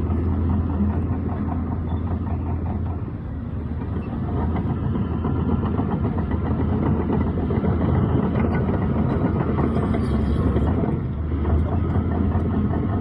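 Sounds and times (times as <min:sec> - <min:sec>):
diesel engine of heavy machinery: 0:00.0 - 0:13.0.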